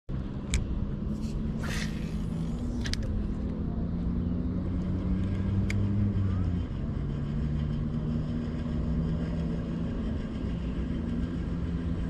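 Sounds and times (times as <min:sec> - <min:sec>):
engine humming steadily: 0:00.1 - 0:12.0.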